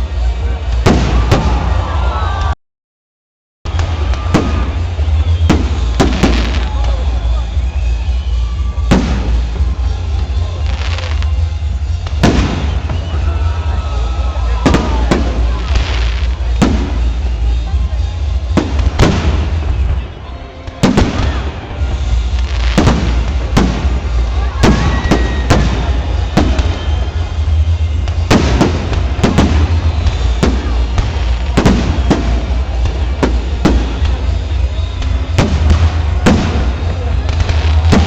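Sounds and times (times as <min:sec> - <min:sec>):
fireworks bursting: 0:00.0 - 0:02.5, 0:03.7 - 0:38.0.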